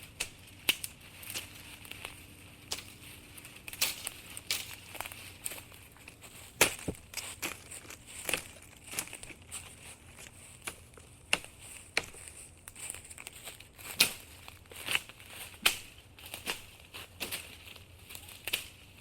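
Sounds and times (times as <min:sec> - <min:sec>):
grass snipped by hand: 0:00.1 - 0:09.4, 0:10.2 - 0:13.2, 0:13.8 - 0:18.8.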